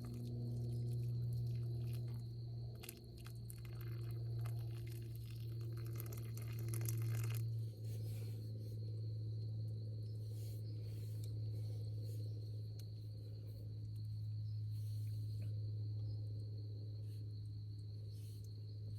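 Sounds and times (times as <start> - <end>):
continuous low hum: 0.0 - 18.9
crickets chirping: 0.0 - 18.9.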